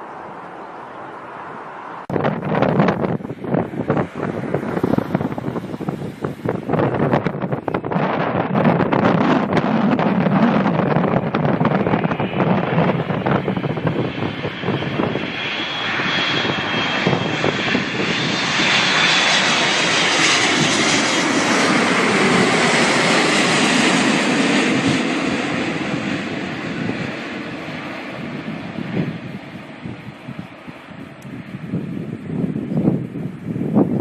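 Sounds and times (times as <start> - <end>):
jet airliner passing: 0.0 - 34.0
wind buffeting microphone: 2.0 - 34.0.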